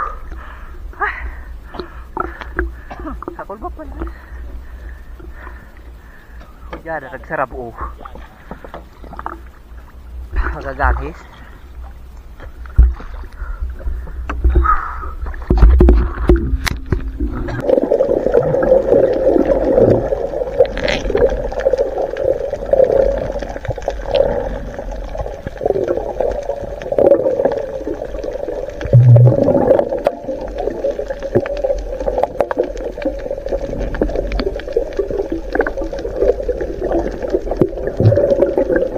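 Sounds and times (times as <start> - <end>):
water splashing: 1.7 - 38.9
underwater gurgling rush: 7.0 - 38.9.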